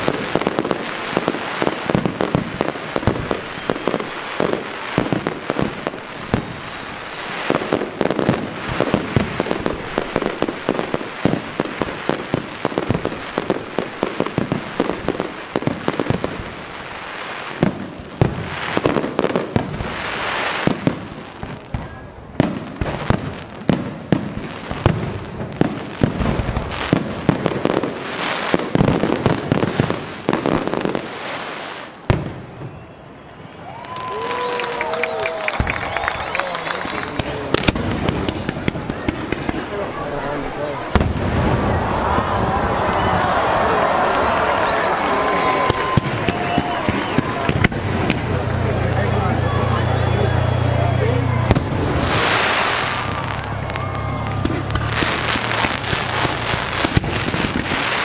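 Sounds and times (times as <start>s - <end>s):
heavy firework booms: 0.0s - 31.3s, 32.0s - 33.5s, 37.2s - 58.0s
fireworks bangs and crackling: 0.0s - 58.0s.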